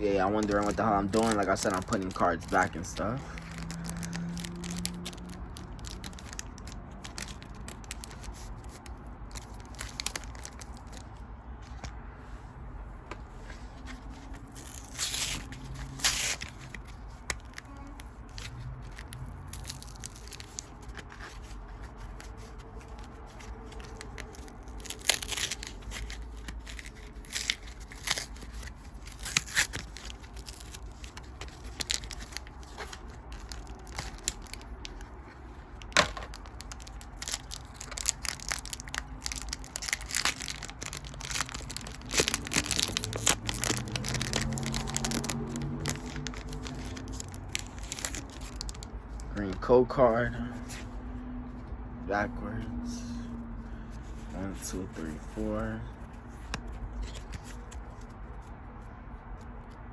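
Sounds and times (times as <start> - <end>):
foil wrapper crinkling and tearing: 0.0 - 11.2, 14.0 - 50.3, 53.9 - 59.8.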